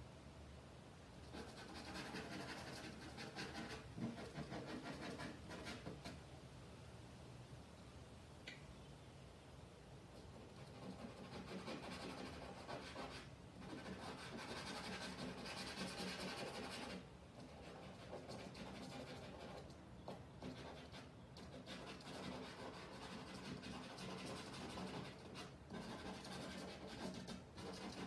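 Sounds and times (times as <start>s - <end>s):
charcoal scratching on paper: 1.2s - 6.2s, 10.3s - 28.0s.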